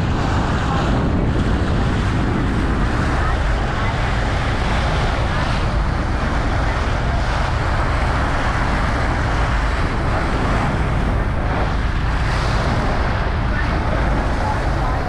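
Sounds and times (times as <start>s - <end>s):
boat engine running: 0.0s - 15.0s
water rushing: 0.0s - 15.0s
wind noise: 0.0s - 15.0s.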